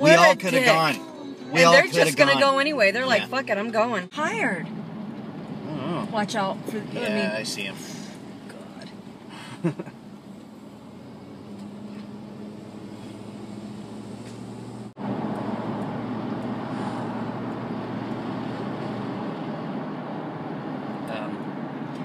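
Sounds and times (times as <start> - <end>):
car engine hum: 0.0 - 22.0
road noise: 0.0 - 22.0.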